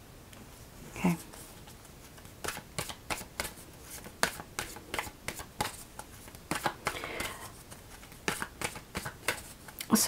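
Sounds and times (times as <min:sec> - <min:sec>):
cards being shuffled: 0:01.2 - 0:09.8.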